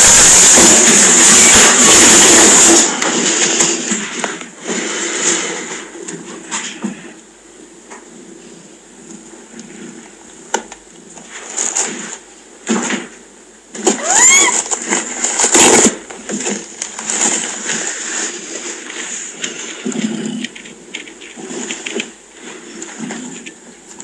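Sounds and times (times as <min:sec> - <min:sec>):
rustling and handling noises: 0:02.9 - 0:24.0.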